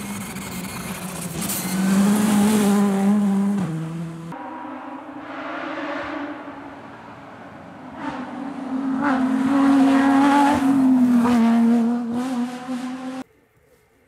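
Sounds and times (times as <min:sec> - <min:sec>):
rally car engine passing: 0:00.4 - 0:13.2.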